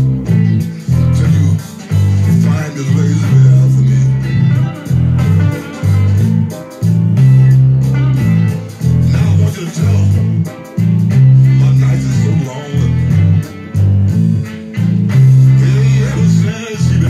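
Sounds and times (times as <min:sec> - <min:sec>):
electric bass guitar bass line: 0:00.0 - 0:17.0.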